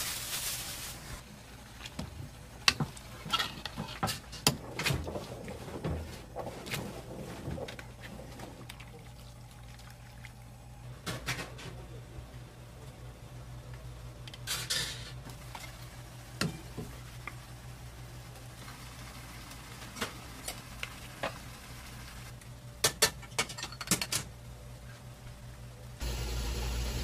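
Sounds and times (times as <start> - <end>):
low kitchen hum: 0.0 - 27.0.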